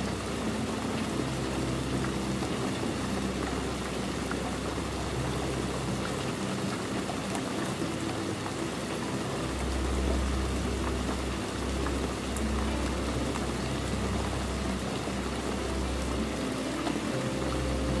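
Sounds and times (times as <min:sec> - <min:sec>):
rain on window glass: 0:00.0 - 0:18.0.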